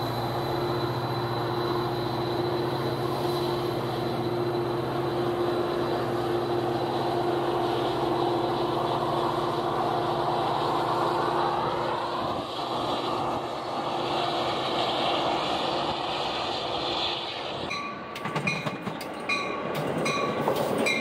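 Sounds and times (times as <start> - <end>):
thin high whine: 0.0 - 18.6
diesel locomotive engine drone: 0.0 - 21.0.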